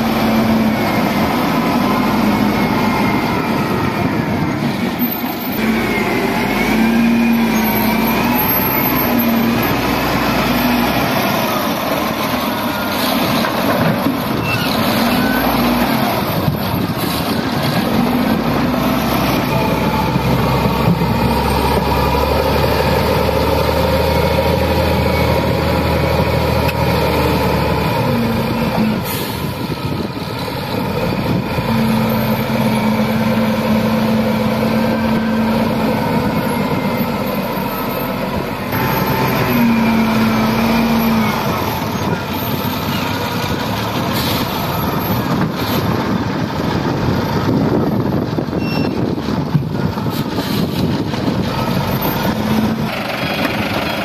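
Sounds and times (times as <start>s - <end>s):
heavy diesel engines working: 0.0s - 54.0s.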